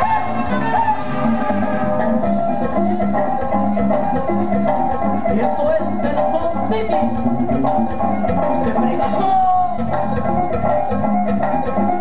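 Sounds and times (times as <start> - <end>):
loud dance music: 0.0 - 11.9.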